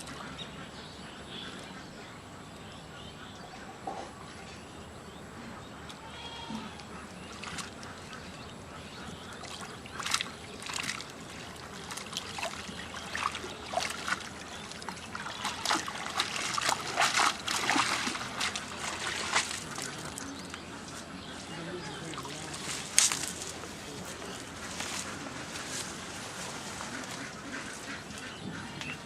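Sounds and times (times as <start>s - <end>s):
water splashing and sloshing: 5.3s - 29.0s.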